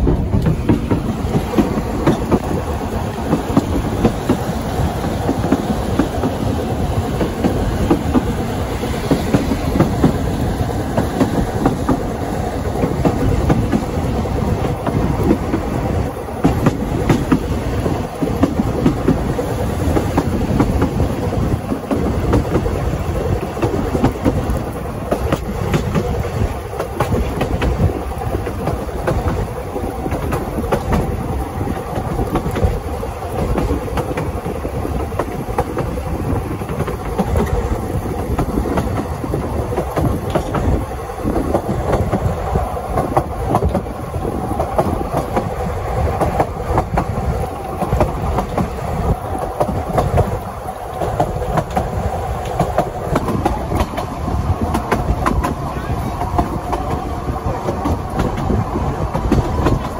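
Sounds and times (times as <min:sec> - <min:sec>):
train rumble: 0:00.0 - 0:59.9
wheels clicking on track: 0:00.0 - 0:59.9.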